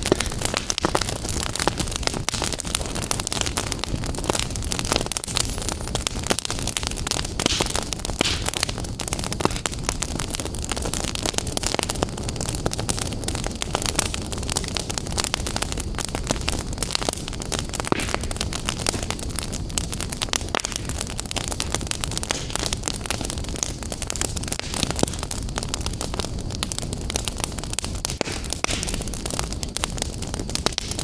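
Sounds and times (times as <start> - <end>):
wood fire crackling and hissing: 0.0 - 31.0.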